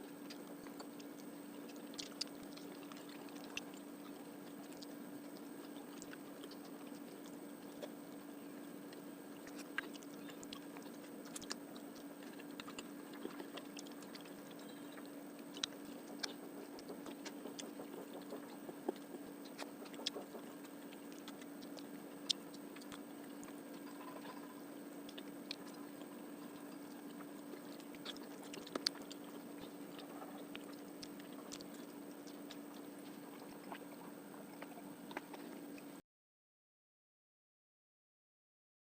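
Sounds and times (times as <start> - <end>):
steady low hum: 0.0 - 36.0
person chewing food: 0.1 - 36.0.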